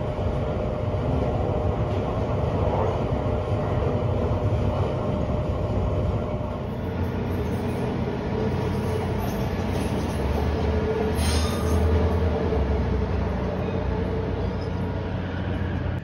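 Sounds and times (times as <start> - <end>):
trains rumbling on guideway: 0.0 - 16.0.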